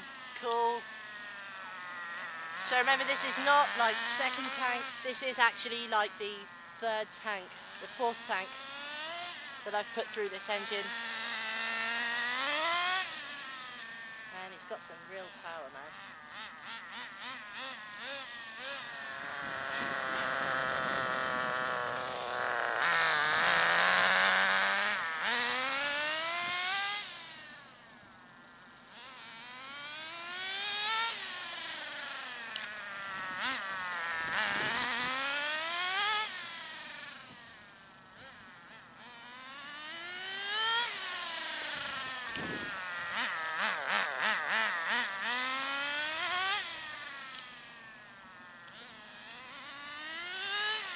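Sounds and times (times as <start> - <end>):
model car engine buzzing: 0.0 - 50.9.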